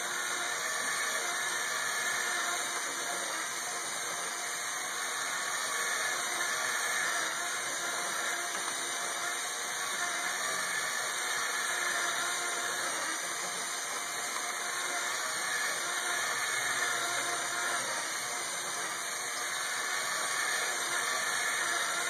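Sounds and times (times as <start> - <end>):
small electric motor whirring: 0.0 - 22.0.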